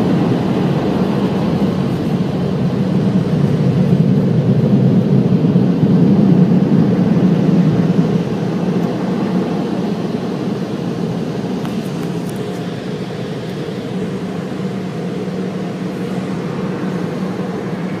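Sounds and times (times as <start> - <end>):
car wash machinery running: 0.0 - 18.0.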